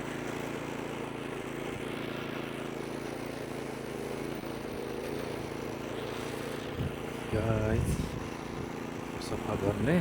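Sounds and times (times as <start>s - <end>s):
snow clearing machine engine: 0.0s - 10.0s.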